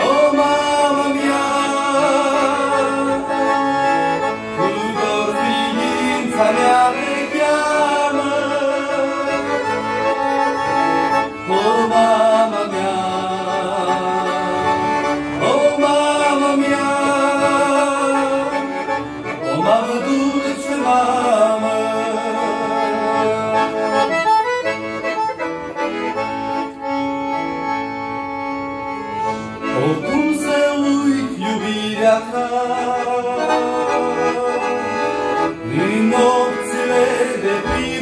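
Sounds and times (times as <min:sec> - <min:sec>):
piano accordion melody: 0:00.0 - 0:38.0.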